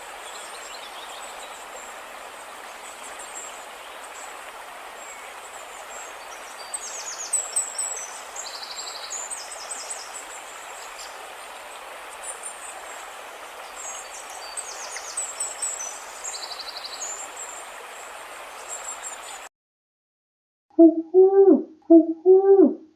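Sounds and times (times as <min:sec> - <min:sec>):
background hiss: 0:00.0 - 0:19.5.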